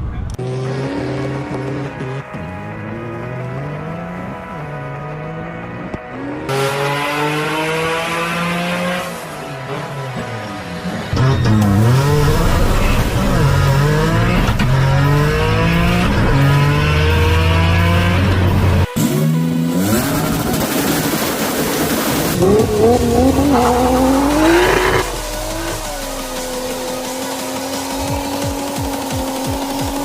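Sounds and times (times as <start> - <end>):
car engine accelerating: 0.0 - 21.2, 21.8 - 30.0.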